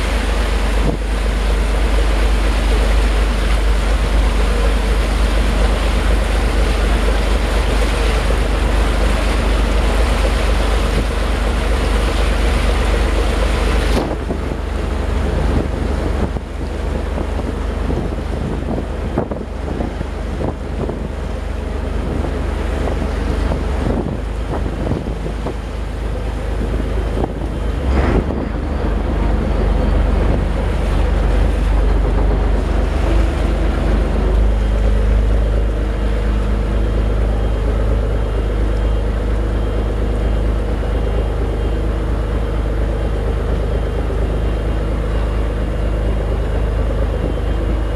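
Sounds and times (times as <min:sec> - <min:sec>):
boat engine droning: 0:00.0 - 0:47.9
wind buffeting microphone: 0:00.0 - 0:47.9.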